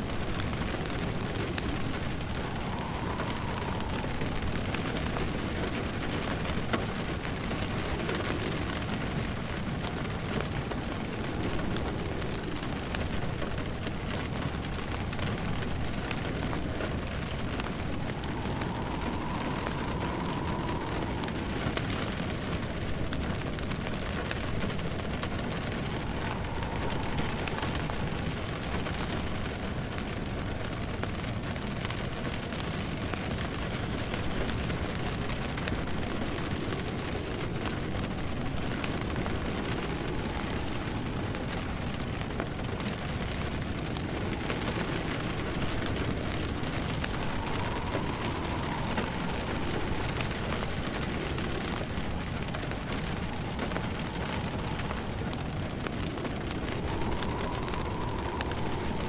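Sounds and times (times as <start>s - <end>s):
faint wind whistle: 0.0s - 59.0s
rain on a surface: 0.0s - 59.0s
wood fire crackling: 0.0s - 59.0s.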